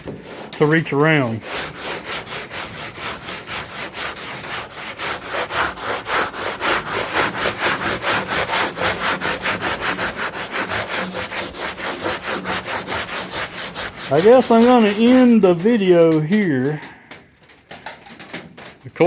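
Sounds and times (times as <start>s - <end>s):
sandpaper scrubbing on metal: 0.0s - 16.6s.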